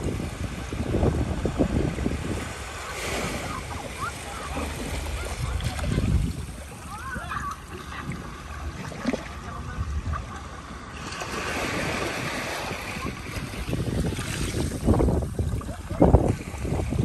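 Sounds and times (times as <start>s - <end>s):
sea water washing over rocks: 0.0s - 9.6s, 10.9s - 17.0s
wind rumbling on microphone: 0.0s - 17.0s.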